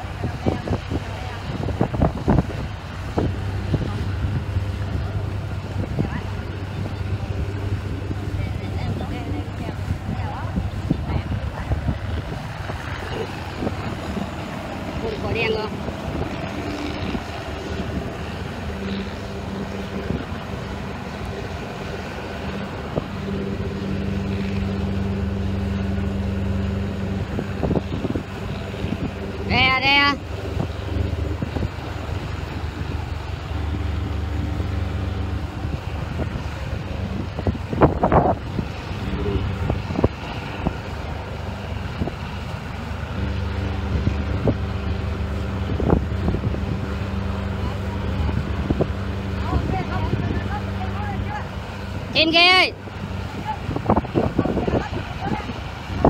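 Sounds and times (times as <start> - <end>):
boat diesel engine running: 0.0 - 56.0
propeller wash churning water: 0.0 - 56.0
wind buffeting microphone: 0.0 - 56.0.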